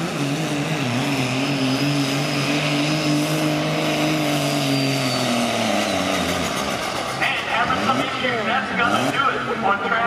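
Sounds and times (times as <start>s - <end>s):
diesel engine at full throttle: 0.0s - 10.0s.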